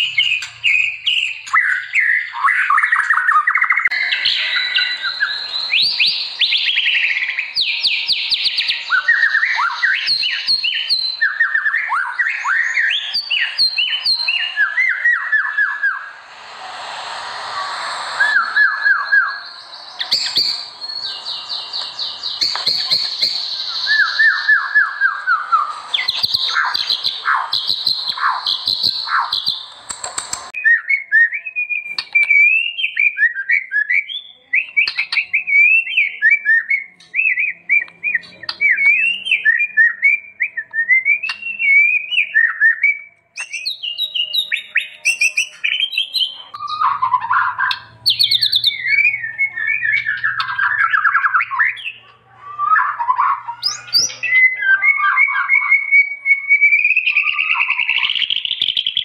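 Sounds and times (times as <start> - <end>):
bird singing whistled phrases: 0.0 - 16.5, 17.4 - 29.8, 30.5 - 59.0.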